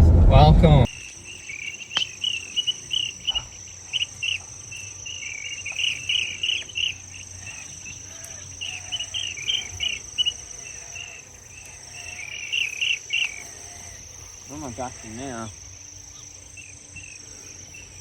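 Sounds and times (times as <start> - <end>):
insects droning: 0.6 - 18.0
insects chirping rapidly: 0.8 - 18.0.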